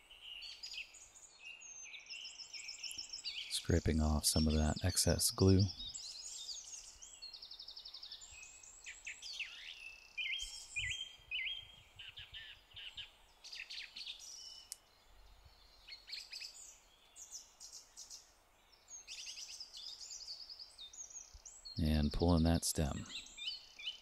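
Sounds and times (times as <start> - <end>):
faint outdoor background noise: 0.0 - 24.0
songbirds singing: 0.0 - 24.0.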